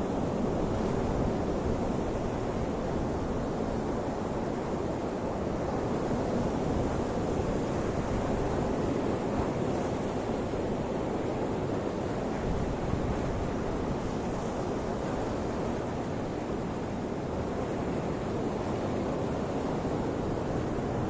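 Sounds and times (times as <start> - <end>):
ocean waves washing: 0.0 - 21.0.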